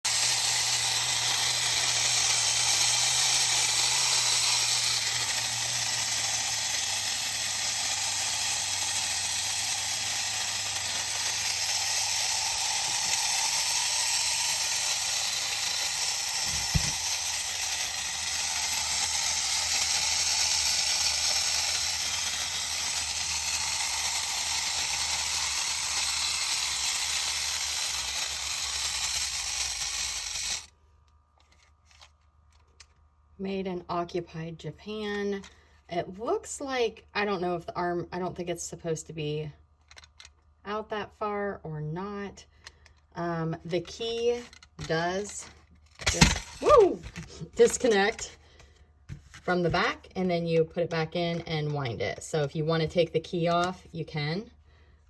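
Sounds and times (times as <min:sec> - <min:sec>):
toy mechanism click: 0:00.0 - 0:30.7, 0:31.4 - 0:33.0, 0:39.8 - 0:40.5, 0:42.4 - 0:54.3
wind-up toy mechanism whirring: 0:00.0 - 0:33.0, 0:34.9 - 0:37.8, 0:39.8 - 0:41.3, 0:42.0 - 0:55.0.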